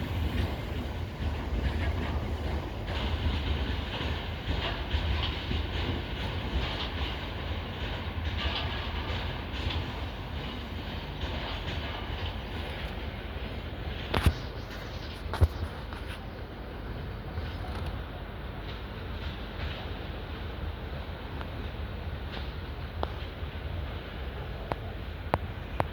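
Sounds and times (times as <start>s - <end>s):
freight train rumbling past: 0.0s - 25.9s
wheels clacking over rail joints: 0.0s - 25.9s.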